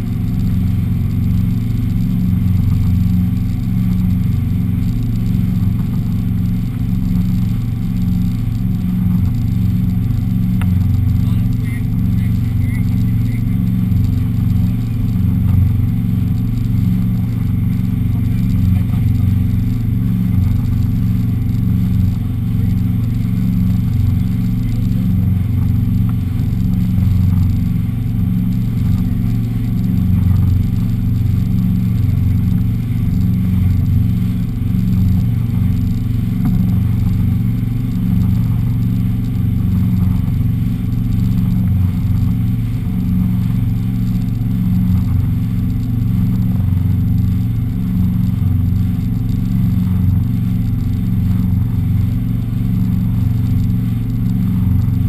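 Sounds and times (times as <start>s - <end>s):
motorboat engine drone: 0.0s - 55.0s.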